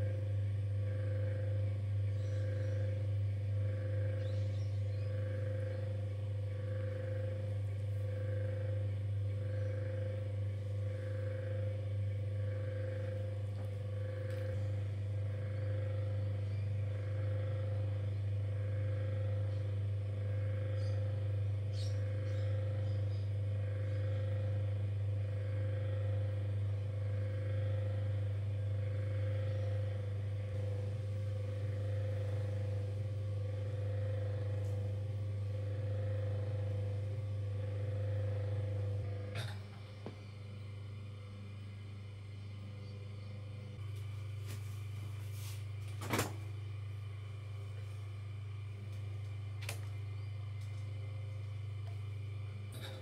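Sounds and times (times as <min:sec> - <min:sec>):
potter's wheel motor humming: 0:00.0 - 0:53.0.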